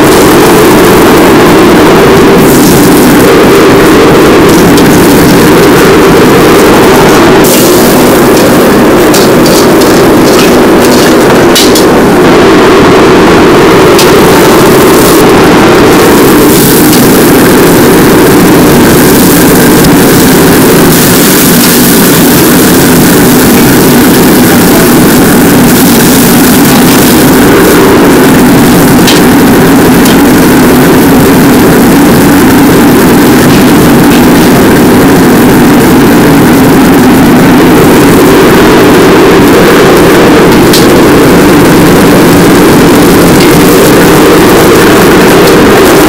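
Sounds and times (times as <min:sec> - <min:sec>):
gas burner roaring: 0:00.0 - 0:46.0.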